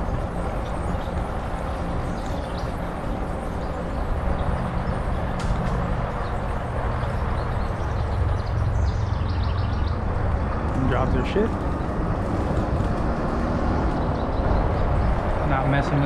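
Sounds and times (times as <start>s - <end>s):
low hum: 0.0s - 16.0s
wind and road noise from bike: 0.0s - 16.0s.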